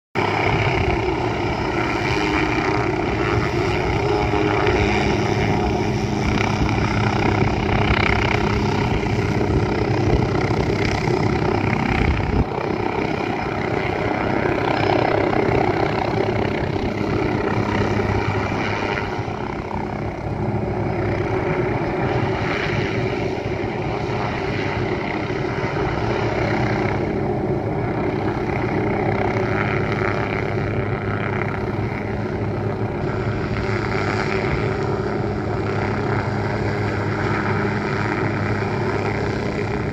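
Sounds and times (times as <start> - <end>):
helicopter engine running: 0.2 - 39.9
helicopter rotor beating: 0.2 - 39.9.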